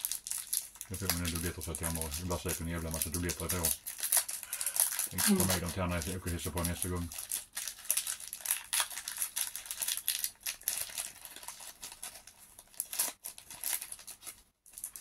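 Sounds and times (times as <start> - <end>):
foil wrapper crinkling: 0.0 - 15.0.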